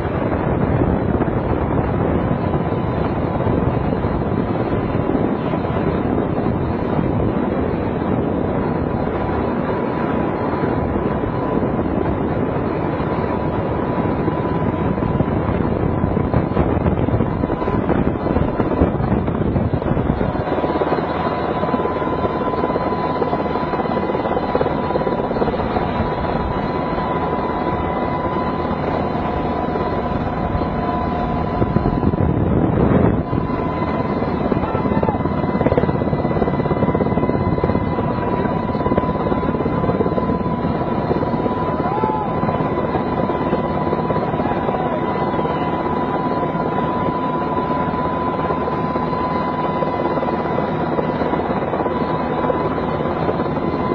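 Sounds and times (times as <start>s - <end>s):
helicopter rotor and engine noise: 0.0s - 53.9s
thin steady whine: 0.0s - 53.9s.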